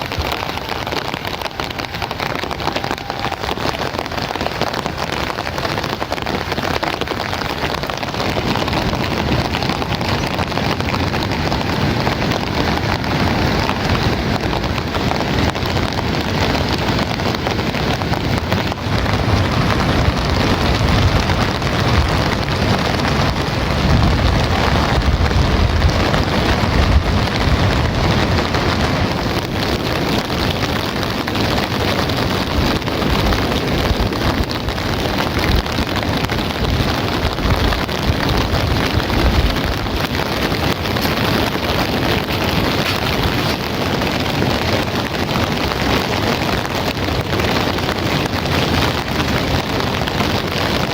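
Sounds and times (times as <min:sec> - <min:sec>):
heavy rain falling: 0:00.0 - 0:50.9.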